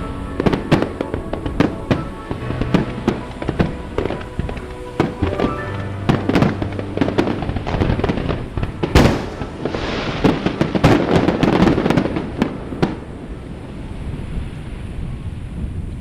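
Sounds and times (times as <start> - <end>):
firework crackling: 0.0 - 15.2.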